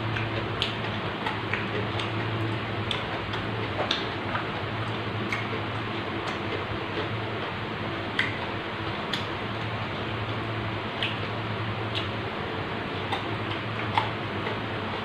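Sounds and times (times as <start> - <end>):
mouth chewing raw vegetables: 0.0 - 15.0
steady low hum: 0.0 - 15.0.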